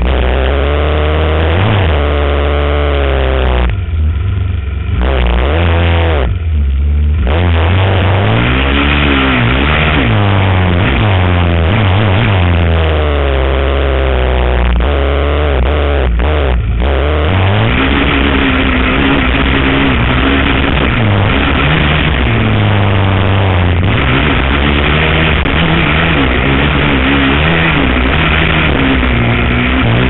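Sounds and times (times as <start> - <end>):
quad engine revving: 0.0 - 30.0.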